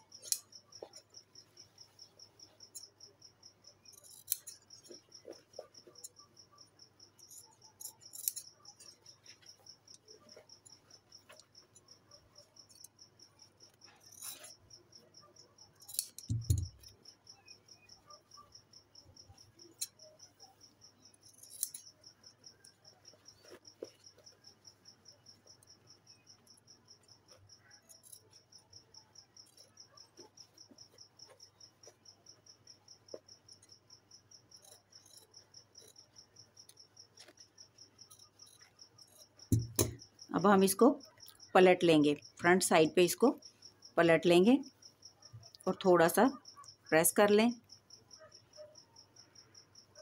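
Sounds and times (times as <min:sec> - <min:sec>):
cricket chirping: 0:00.0 - 0:50.0.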